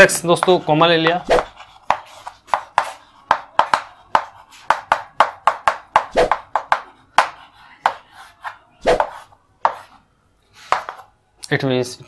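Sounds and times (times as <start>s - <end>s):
chalk tapping on chalkboard: 0.2s - 10.0s, 10.6s - 11.1s.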